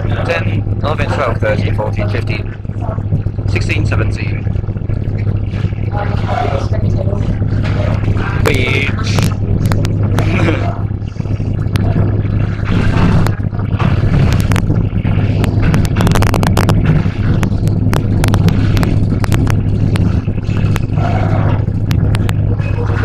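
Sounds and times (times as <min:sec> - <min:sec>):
sharp clicks and rattles: 0:00.0 - 0:23.0
train running hum: 0:00.0 - 0:23.0.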